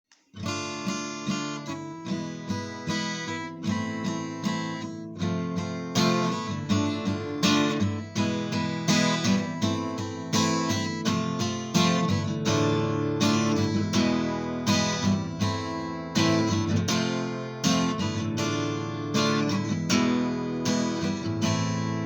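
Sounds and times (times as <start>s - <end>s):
acoustic guitar strumming: 0.4s - 22.0s.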